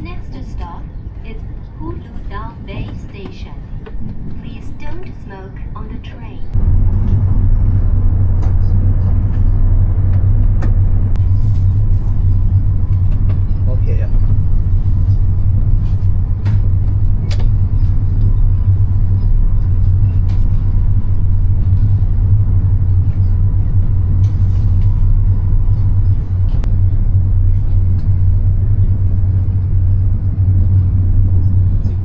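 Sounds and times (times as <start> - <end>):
train rumble from inside: 0.0 - 32.0.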